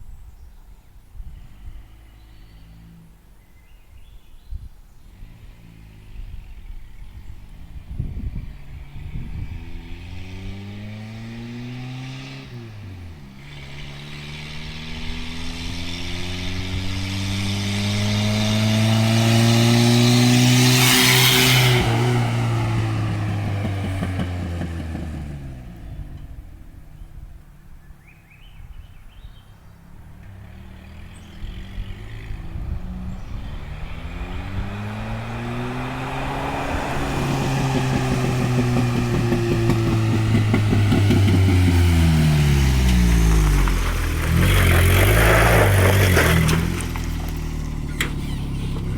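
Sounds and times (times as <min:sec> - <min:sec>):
turbocharged engine under power: 0:05.1 - 0:27.4, 0:28.3 - 0:48.9.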